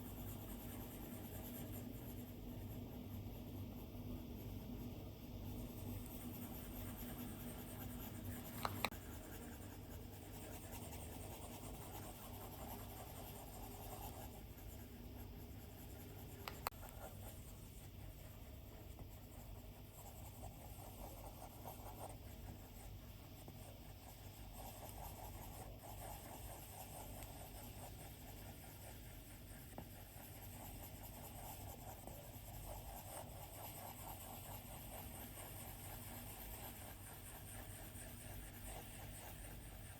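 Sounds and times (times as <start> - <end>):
stylus scratching on glass screen: 0.0 - 39.9.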